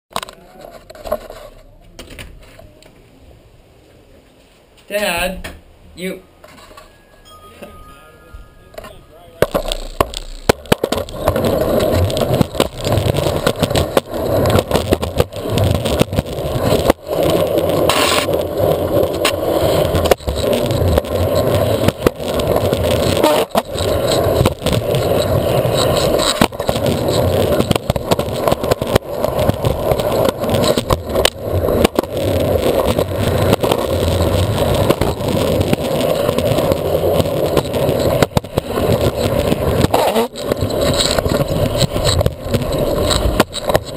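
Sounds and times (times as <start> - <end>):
skateboard wheels rolling on concrete: 0.1 - 8.0, 8.8 - 43.9.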